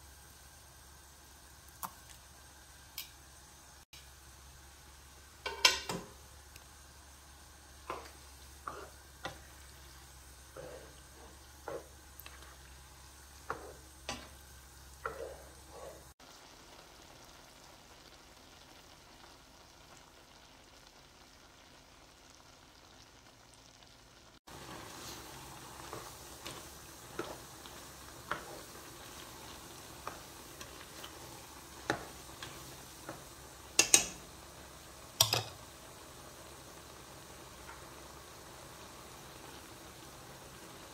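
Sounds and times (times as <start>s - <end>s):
sauce sizzling: 0.0s - 40.9s.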